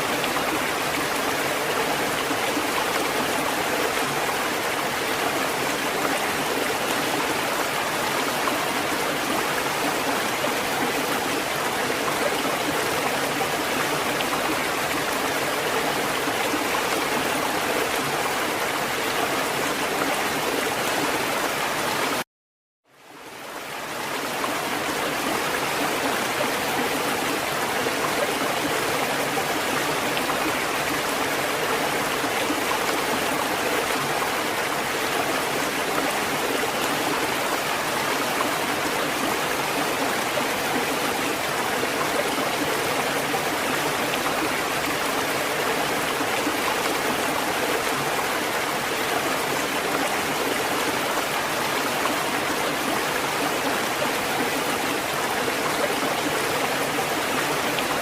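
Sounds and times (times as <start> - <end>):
rushing water: 0.0 - 22.2, 22.9 - 58.0.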